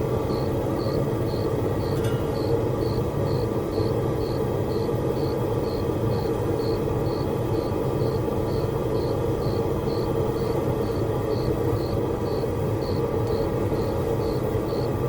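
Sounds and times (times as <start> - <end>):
cricket chirping: 0.2 - 15.0.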